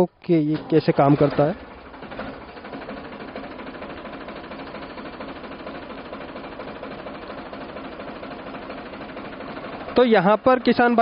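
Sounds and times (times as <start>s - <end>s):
tractor engine running: 0.3s - 11.0s
spray pump mechanical clatter: 0.4s - 11.0s.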